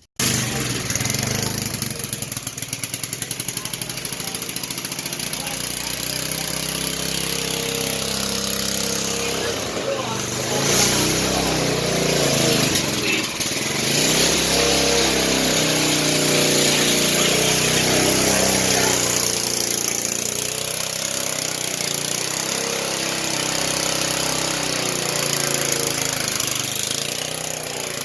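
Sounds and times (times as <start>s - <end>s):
small mower engine running: 0.0s - 28.0s.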